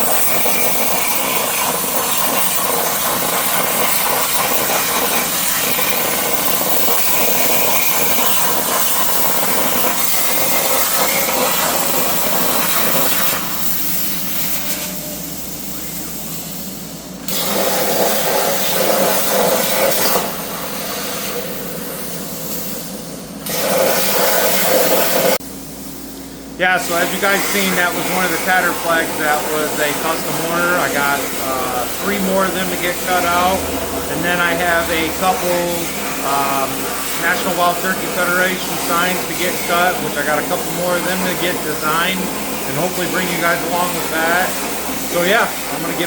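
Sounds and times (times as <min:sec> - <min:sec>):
plasma cutter hissing: 0:00.0 - 0:25.4, 0:26.6 - 0:46.0.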